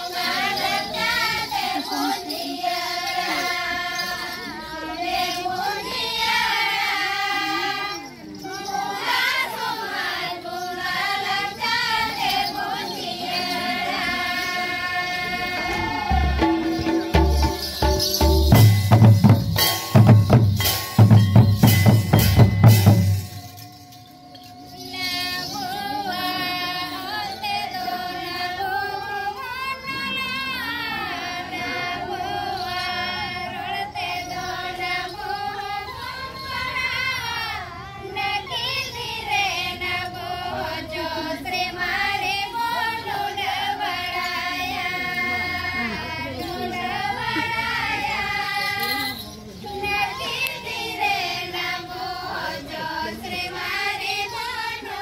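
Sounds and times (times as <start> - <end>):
women singing in unison: 0.0 - 17.3, 24.9 - 55.0.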